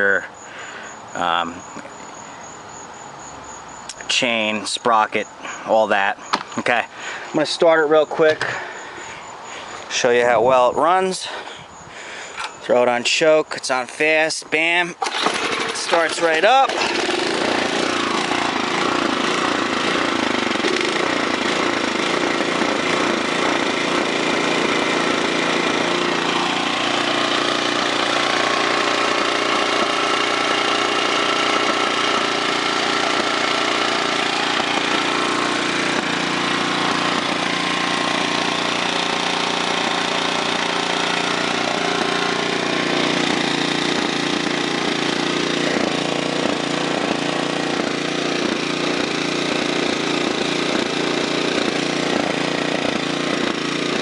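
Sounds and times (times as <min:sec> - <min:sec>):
small engine running fast: 0:00.0 - 0:04.0, 0:04.9 - 0:12.7, 0:14.0 - 0:54.0.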